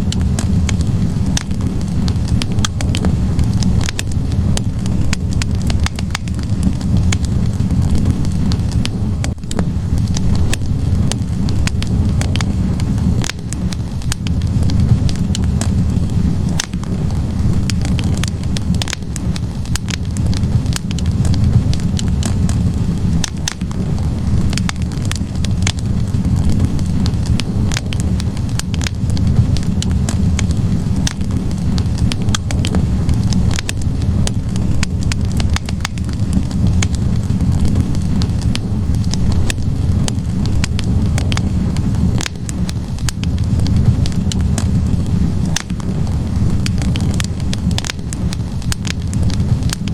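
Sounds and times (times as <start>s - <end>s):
logs crackling and popping: 0.0s - 49.9s
low rumble of flames: 0.0s - 49.9s.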